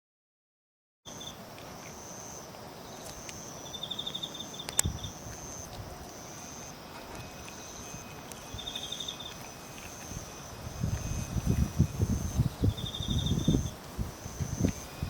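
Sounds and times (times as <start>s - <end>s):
insects trilling: 1.1s - 15.0s
low pulsed insect chirping: 1.1s - 15.0s.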